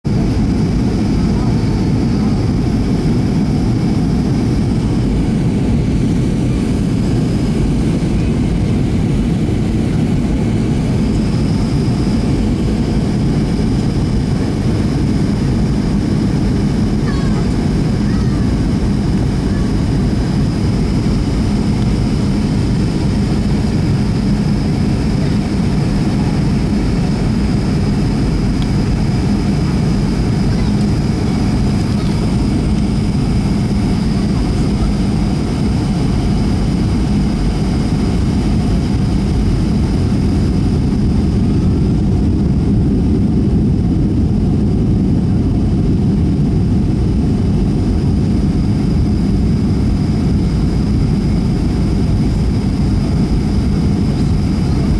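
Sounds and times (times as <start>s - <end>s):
jet engine and airflow rumble: 0.0s - 54.9s.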